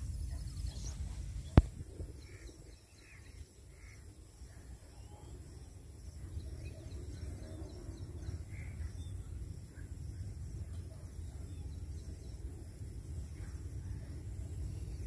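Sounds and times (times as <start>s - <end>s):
faint bird calls: 0.1s - 12.4s.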